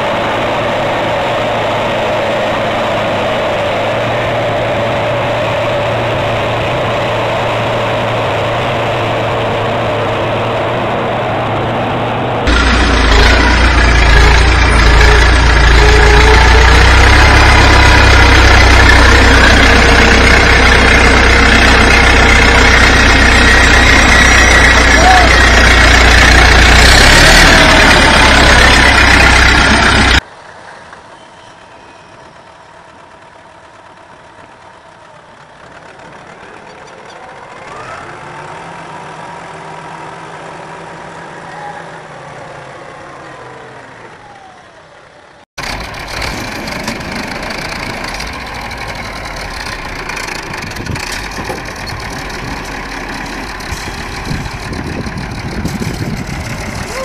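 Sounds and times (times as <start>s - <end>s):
combine harvester engine: 0.0s - 57.0s
tractor engine running: 0.0s - 57.0s.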